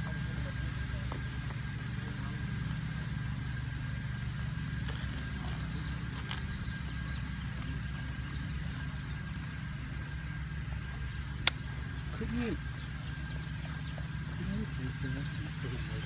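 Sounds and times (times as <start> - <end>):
faint high whine: 0.0 - 16.0
low engine rumble: 0.0 - 16.0.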